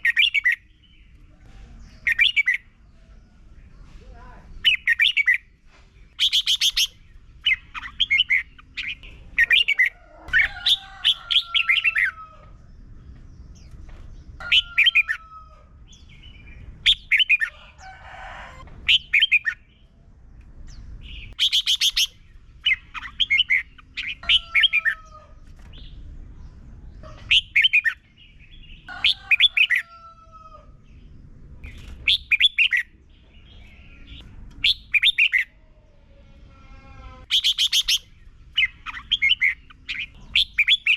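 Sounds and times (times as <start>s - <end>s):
bird singing chattering phrases: 0.0s - 12.2s, 15.9s - 17.5s, 18.9s - 19.9s, 20.7s - 29.9s, 30.8s - 36.0s, 37.0s - 40.9s.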